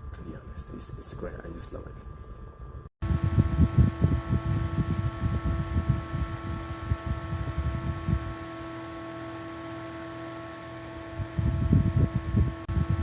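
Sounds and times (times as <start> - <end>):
small fan motor humming: 0.0 - 13.0
low rumbling: 1.9 - 13.0.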